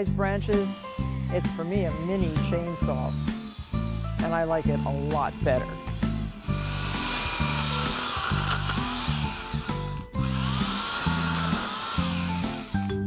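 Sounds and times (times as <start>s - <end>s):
electric pole saw cutting: 0.0s - 13.0s.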